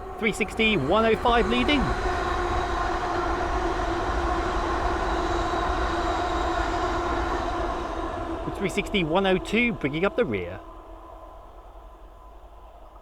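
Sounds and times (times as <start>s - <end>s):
electric train whine: 0.0s - 13.0s
train wheels rumbling on rails: 0.0s - 13.0s.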